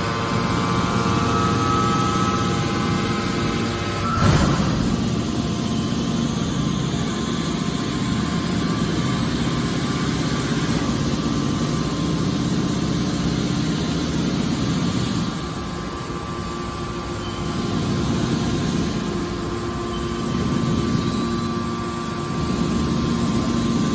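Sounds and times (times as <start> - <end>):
hydraulic baler mechanical drone: 0.0 - 23.9.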